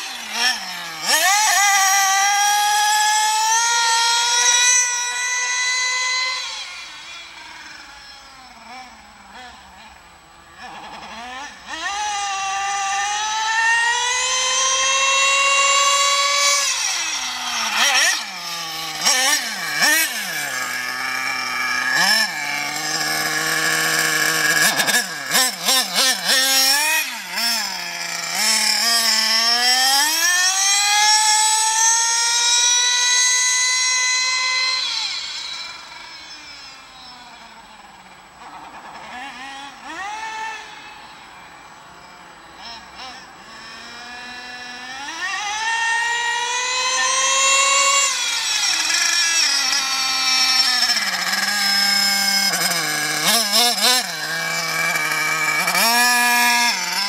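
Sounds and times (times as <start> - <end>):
rc car nitro engine revving: 0.0 - 57.0.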